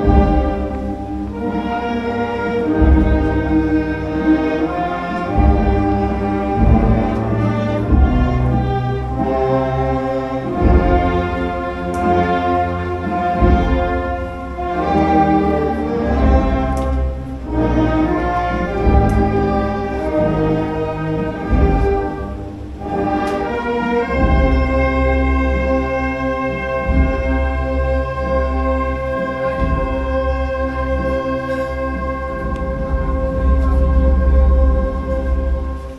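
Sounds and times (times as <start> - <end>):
orchestral music with brass: 0.0 - 35.9.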